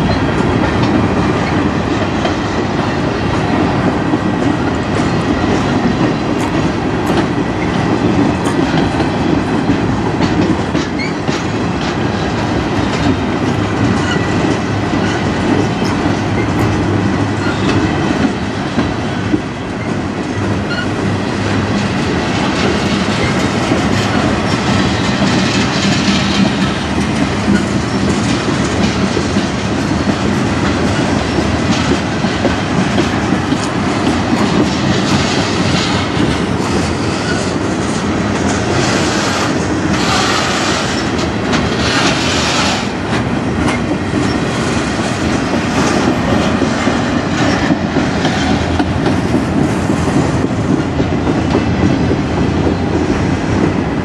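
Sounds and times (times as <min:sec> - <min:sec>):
clickety-clack over rail joints: 0:00.0 - 0:54.0
freight train wheels rumbling on rail: 0:00.0 - 0:54.0.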